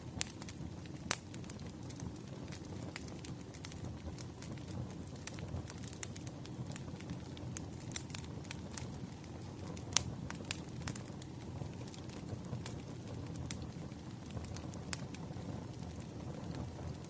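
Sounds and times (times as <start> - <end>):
campfire crackling: 0.0 - 17.0
burning wood pops and snaps: 0.1 - 17.0.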